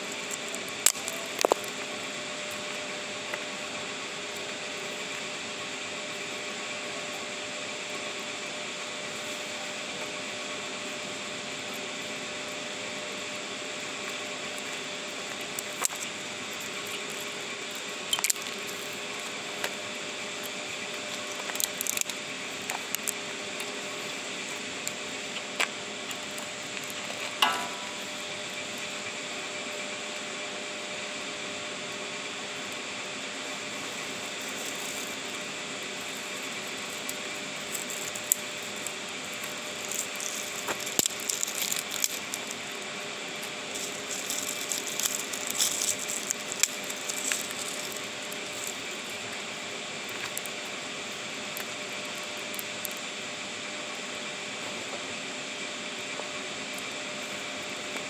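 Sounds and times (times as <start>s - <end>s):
wood fire crackling and popping: 0.0s - 5.4s, 9.0s - 54.9s.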